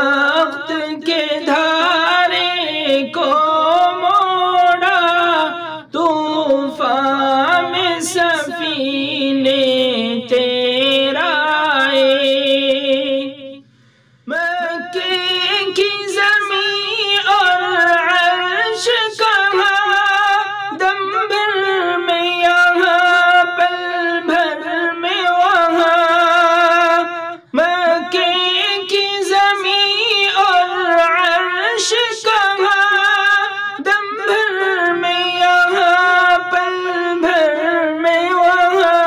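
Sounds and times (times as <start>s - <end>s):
man singing: 0.0s - 13.6s, 14.2s - 39.0s.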